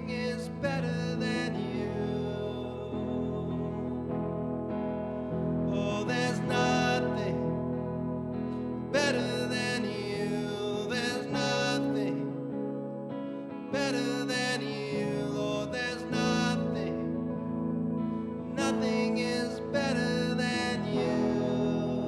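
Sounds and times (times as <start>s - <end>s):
soft slow music with chords: 0.0s - 22.0s.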